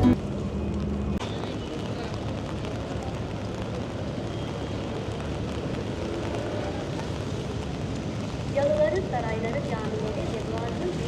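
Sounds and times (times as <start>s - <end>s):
falling rain: 0.0s - 11.0s
wet city noise: 0.0s - 11.0s.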